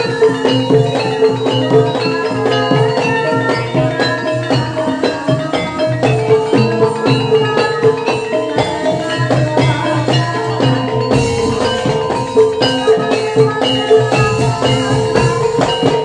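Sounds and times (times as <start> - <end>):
keyed percussion melody: 0.0 - 16.0
repeating drum pattern: 0.0 - 16.0.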